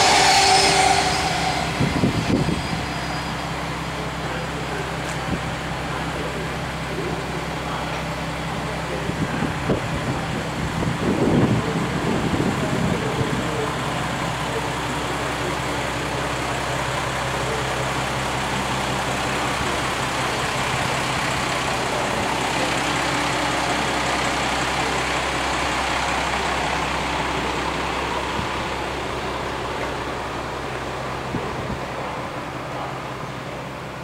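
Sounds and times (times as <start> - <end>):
diesel railcar engine idling: 0.0 - 34.0.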